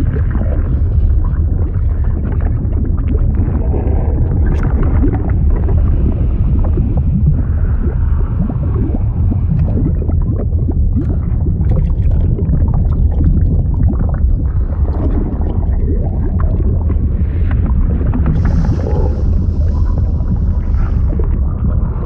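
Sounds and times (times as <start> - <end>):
deep steady rumble: 0.0 - 22.0
liquid bubbling and gurgling: 0.0 - 22.0.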